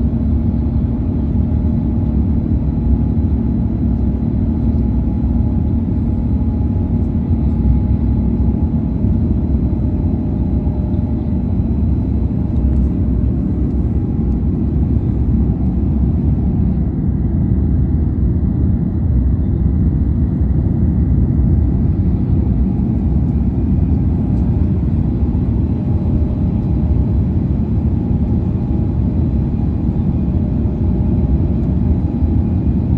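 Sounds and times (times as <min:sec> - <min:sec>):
jet engines rumbling: 0:00.2 - 0:32.9.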